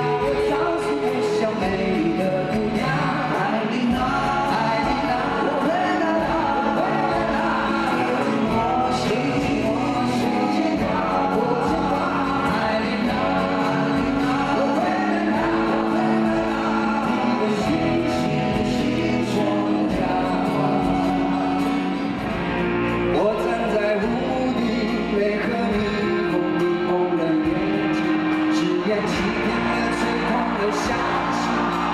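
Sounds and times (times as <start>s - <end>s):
men singing together: 0.0s - 22.2s, 23.2s - 31.9s
acoustic and electric guitars: 0.0s - 31.9s.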